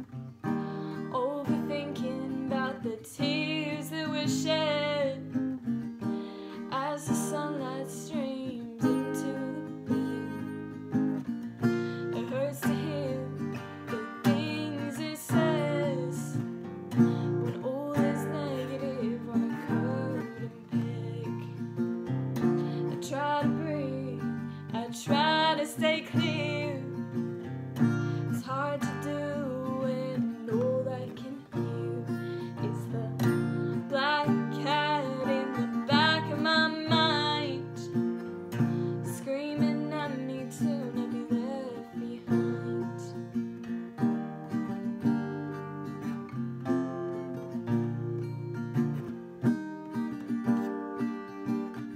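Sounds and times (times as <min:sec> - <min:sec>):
woman singing: 0:00.0 - 0:48.4
acoustic guitar strumming: 0:00.0 - 0:51.9.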